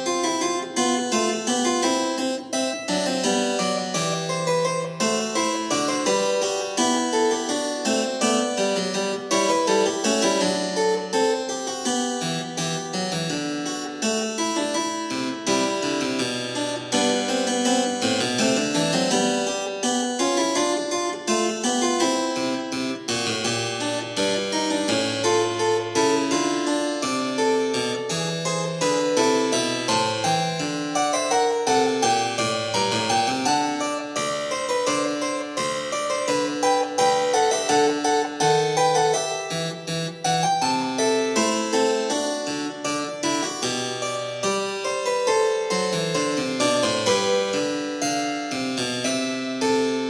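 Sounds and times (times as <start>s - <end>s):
solo keyboard music: 0.0s - 50.0s.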